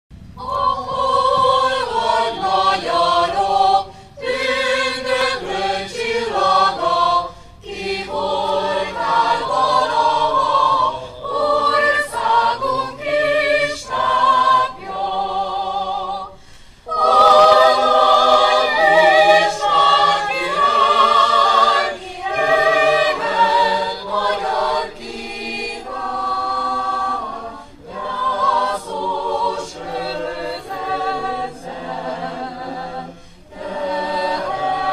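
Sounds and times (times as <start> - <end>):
choir singing: 0.4 - 34.9.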